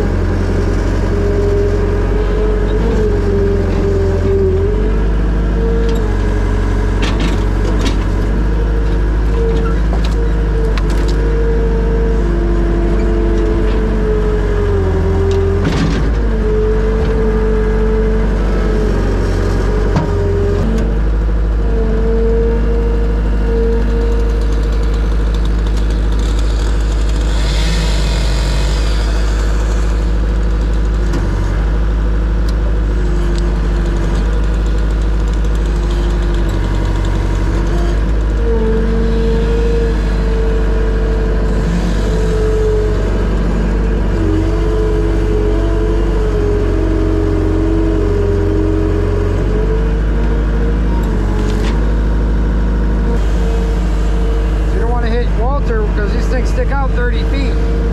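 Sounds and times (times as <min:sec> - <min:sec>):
hydraulic whine: 0:00.0 - 0:57.9
skid steer engine running: 0:00.0 - 0:57.9.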